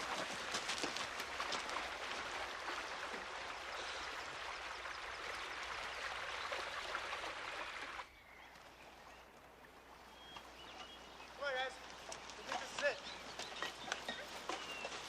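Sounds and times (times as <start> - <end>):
rushing stream water: 0.0 - 8.2, 8.9 - 15.0.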